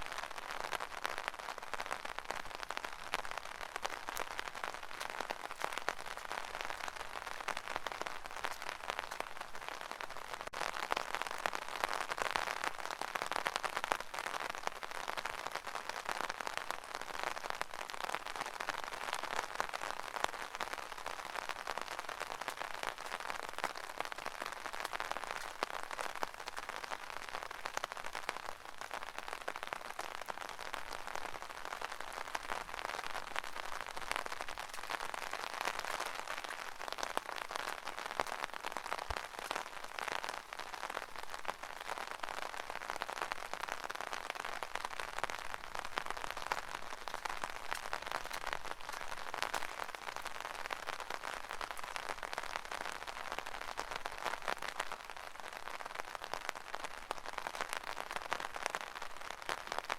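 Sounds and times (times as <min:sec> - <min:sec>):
rain on an umbrella: 0:00.0 - 0:59.9.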